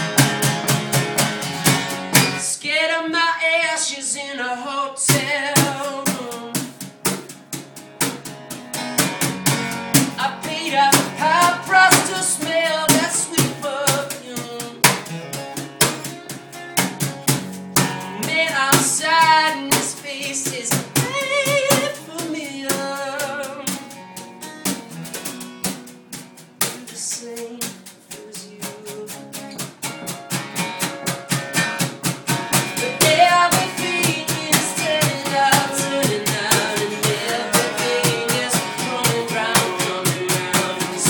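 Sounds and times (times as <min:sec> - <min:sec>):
guitar strumming: 0:00.0 - 0:02.6, 0:05.1 - 0:41.0
drums: 0:00.0 - 0:02.7, 0:05.0 - 0:41.0.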